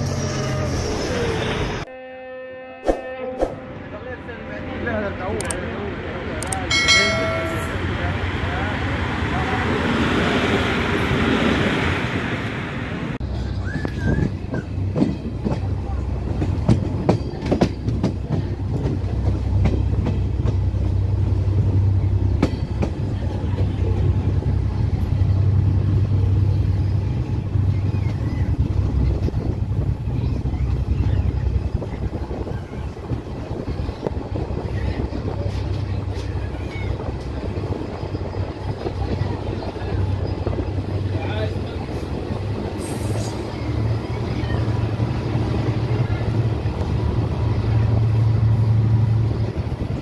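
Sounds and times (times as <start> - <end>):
train wheels rumbling on rails: 4.8 - 50.0.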